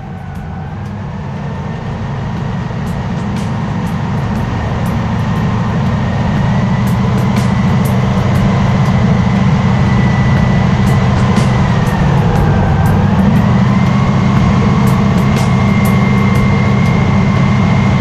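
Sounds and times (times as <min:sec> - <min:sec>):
faint steady whine: 0:00.0 - 0:18.0
radial engine low rumble: 0:00.0 - 0:18.0.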